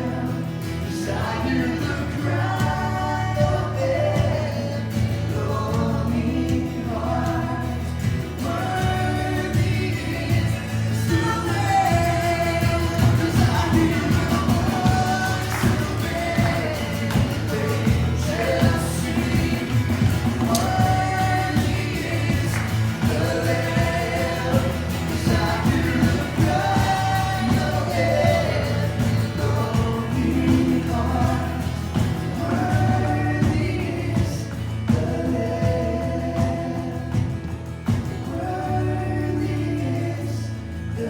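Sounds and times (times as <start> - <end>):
band with bass and beat: 0.0 - 40.1
voices singing together: 0.0 - 41.0.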